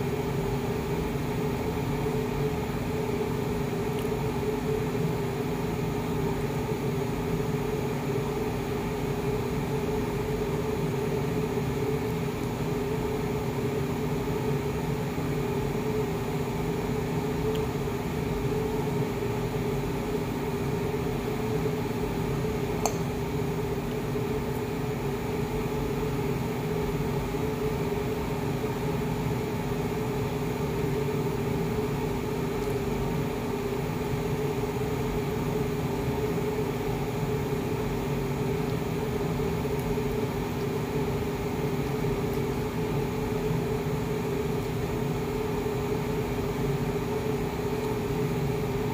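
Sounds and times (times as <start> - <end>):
steady machine hum: 0.0 - 48.9.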